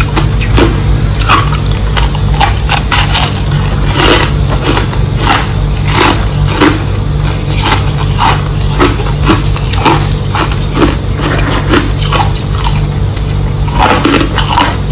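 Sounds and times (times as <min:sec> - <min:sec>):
crushed ice being chewed: 0:00.0 - 0:14.9.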